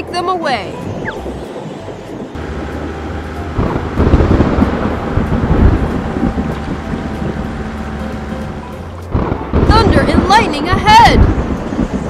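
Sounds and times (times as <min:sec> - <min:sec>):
low rolling thunder: 0:00.9 - 0:12.0
truck engine running: 0:00.9 - 0:12.0.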